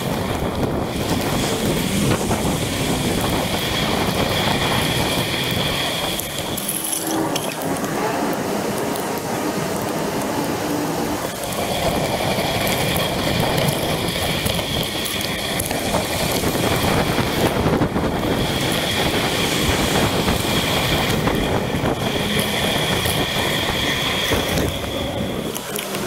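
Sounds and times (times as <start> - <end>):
bicycle rolling on wet road: 0.0 - 26.0
high whine: 0.0 - 26.0.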